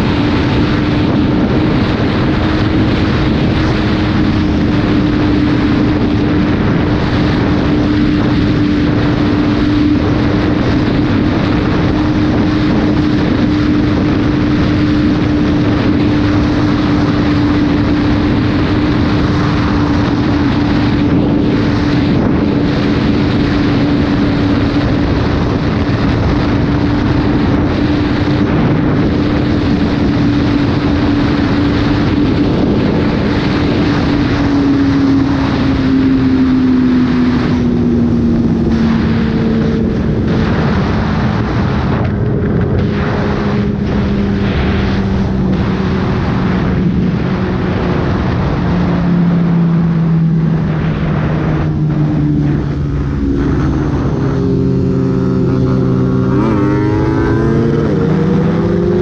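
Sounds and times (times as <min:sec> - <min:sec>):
motorcycle engine at speed: 0:00.0 - 0:59.0
wind rush: 0:00.0 - 0:59.0.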